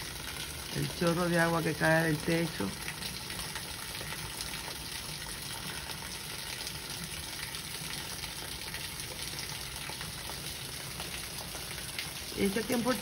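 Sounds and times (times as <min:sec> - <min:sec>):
heavy rain: 0:00.0 - 0:13.0
water pouring off roof: 0:00.0 - 0:13.0.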